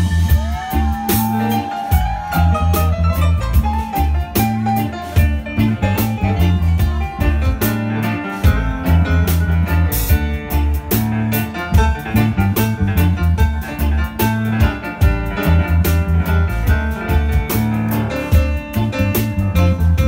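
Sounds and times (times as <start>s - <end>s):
bass guitar line: 0.0s - 20.0s
electric keyboard: 0.0s - 20.0s
live swing jazz band: 0.0s - 20.0s.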